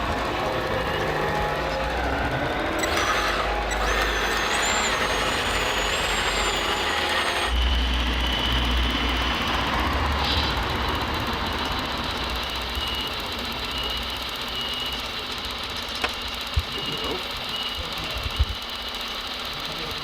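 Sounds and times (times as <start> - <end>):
high wavering motor whine: 0.0 - 20.0
steady mechanical noise: 0.0 - 20.0.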